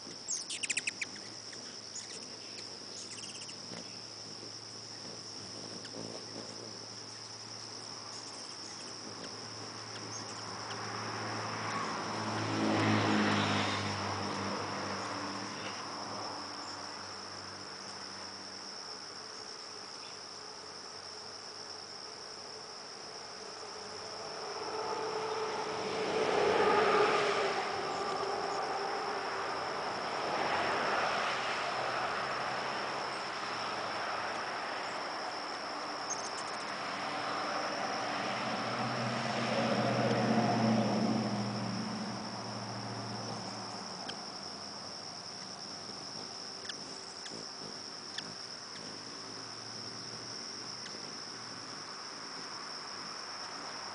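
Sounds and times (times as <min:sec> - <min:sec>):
insect trilling: 0:00.0 - 0:53.9.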